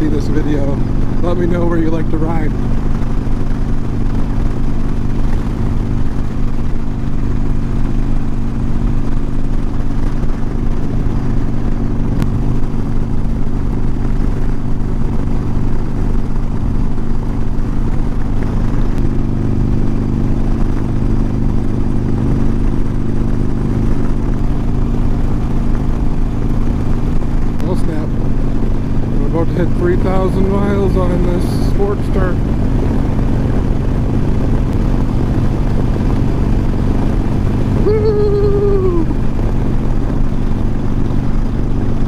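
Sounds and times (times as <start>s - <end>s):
motorcycle engine cruising: 0.0s - 42.0s
wind rush: 2.4s - 42.0s.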